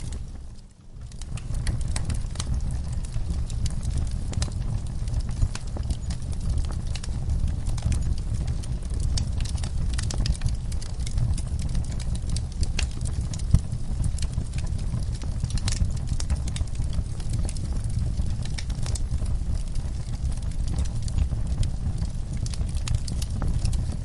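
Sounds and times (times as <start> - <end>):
fireplace crackling: 0.0 - 24.0.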